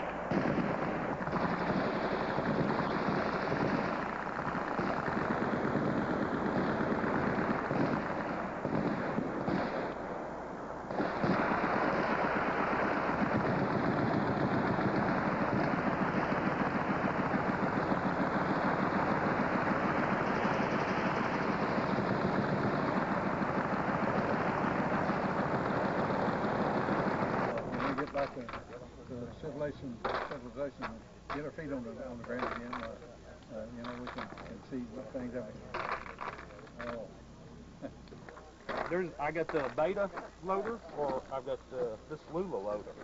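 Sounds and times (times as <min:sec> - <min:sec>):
machine-gun fire: 0:00.0 - 0:28.8, 0:29.5 - 0:33.0, 0:33.6 - 0:37.1, 0:38.7 - 0:41.3.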